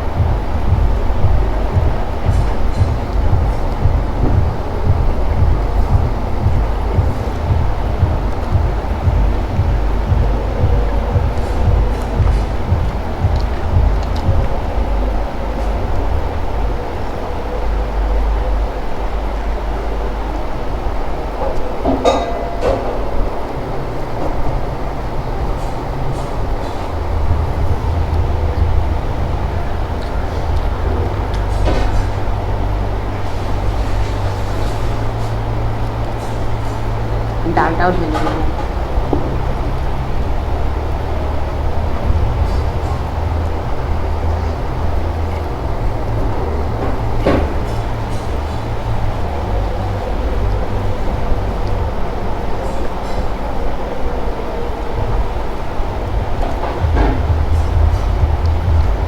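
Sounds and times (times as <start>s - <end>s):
low rumbling noise: 0.0s - 59.0s.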